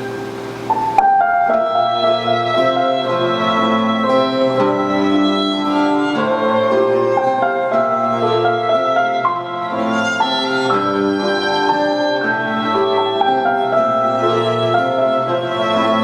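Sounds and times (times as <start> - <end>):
piano: 0.0 - 16.0
violin melody: 0.0 - 16.0.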